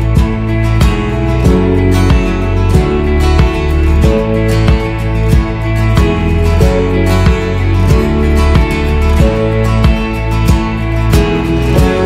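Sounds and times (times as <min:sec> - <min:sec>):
acoustic guitar music with beat: 0:00.0 - 0:12.0.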